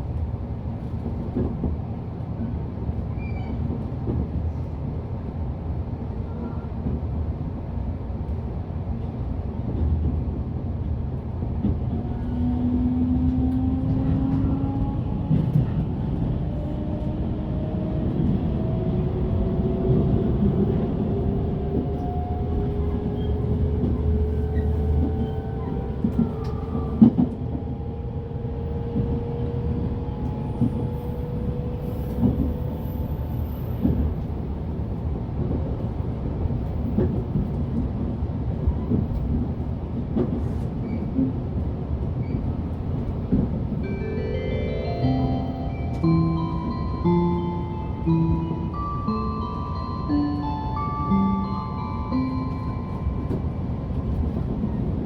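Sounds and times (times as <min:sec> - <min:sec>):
train wheels rumbling on rail: 0:00.0 - 0:44.0, 0:45.9 - 0:55.0.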